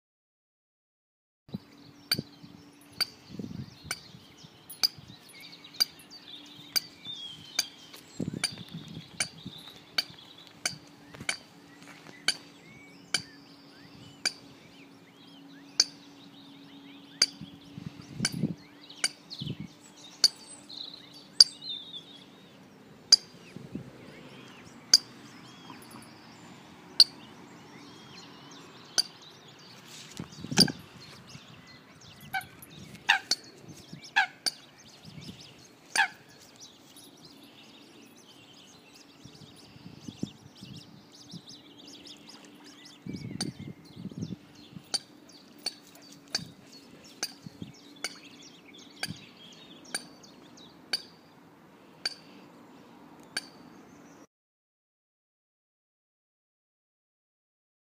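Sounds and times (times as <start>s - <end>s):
coots clinking calls: 2.0s - 23.5s, 24.1s - 29.6s, 30.5s - 51.2s.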